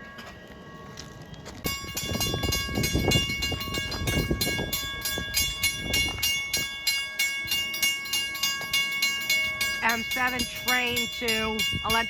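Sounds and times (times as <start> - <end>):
electric train rumbling: 0.0 - 12.0
ringing bell: 1.7 - 12.0.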